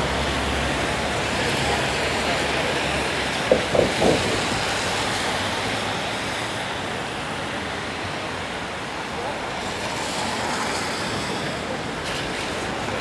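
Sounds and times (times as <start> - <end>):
tyres swishing on wet pavement: 0.0 - 13.0.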